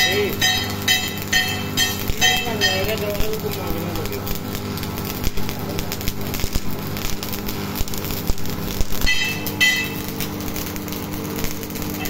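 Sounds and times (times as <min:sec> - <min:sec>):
low steady hum: 0:00.0 - 0:12.0
welding arc crackling: 0:00.0 - 0:12.0.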